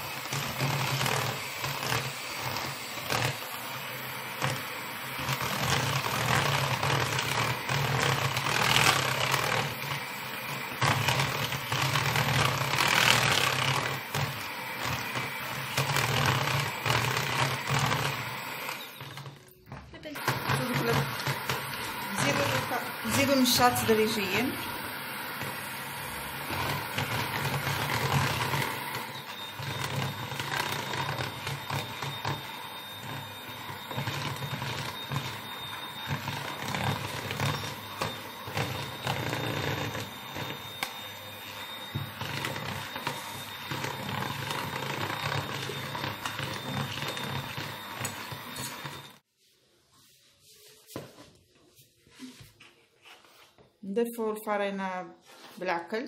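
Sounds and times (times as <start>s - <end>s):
electric hand mixer running: 0.0s - 49.3s.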